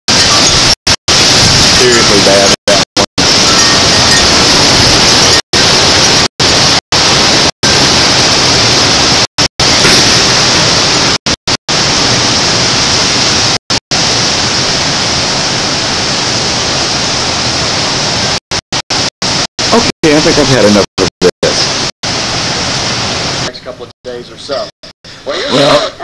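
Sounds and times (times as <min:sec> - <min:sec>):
wind gust with driving rain: 0:00.1 - 0:20.6, 0:21.4 - 0:23.6.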